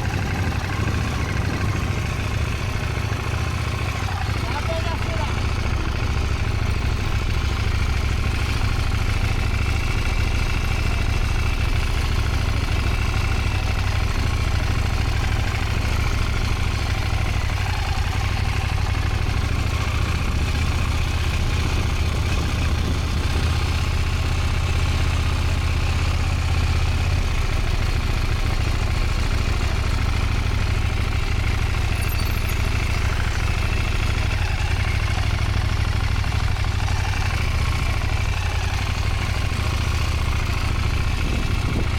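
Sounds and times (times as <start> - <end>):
motorcycle engine at low revs: 0.0 - 41.9.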